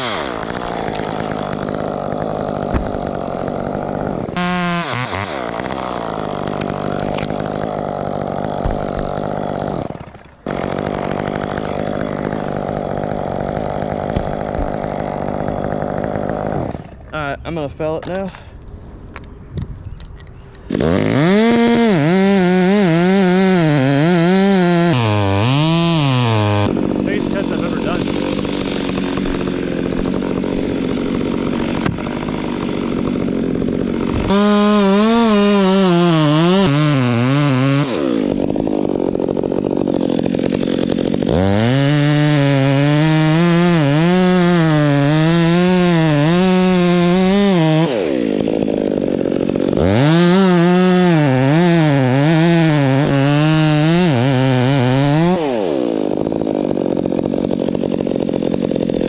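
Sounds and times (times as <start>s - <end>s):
chainsaw cutting at full throttle: 0.0s - 17.1s, 20.6s - 59.0s
chainsaw idling: 0.0s - 17.2s, 20.6s - 59.0s.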